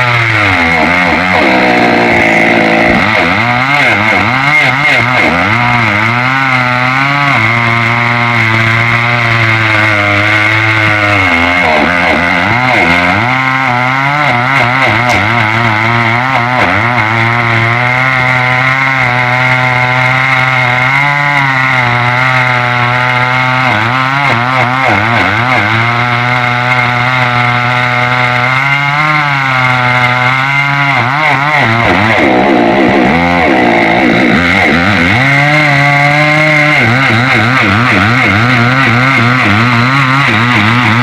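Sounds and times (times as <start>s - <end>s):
chainsaw cutting wood: 0.0s - 41.0s.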